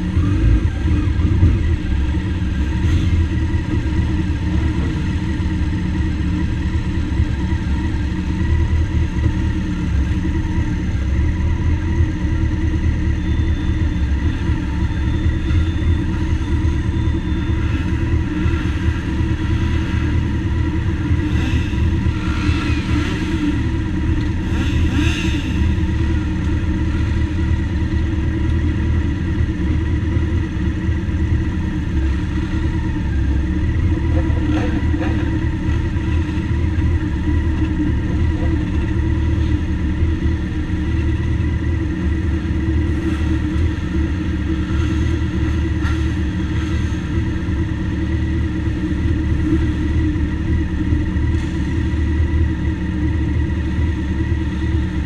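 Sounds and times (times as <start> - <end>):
motorcycle engines idling: 0.0 - 55.0.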